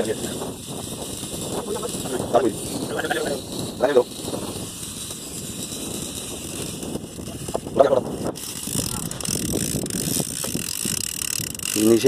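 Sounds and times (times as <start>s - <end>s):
boat engine running: 0.0s - 12.0s
fishing reel cranking: 0.0s - 12.0s
wind on microphone: 0.0s - 12.0s.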